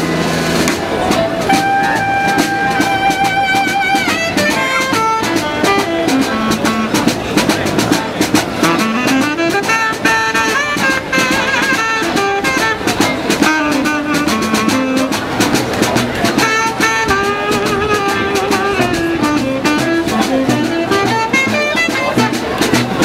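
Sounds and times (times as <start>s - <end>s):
steady drum beat: 0.0s - 23.0s
street band playing upbeat tune: 0.0s - 23.0s.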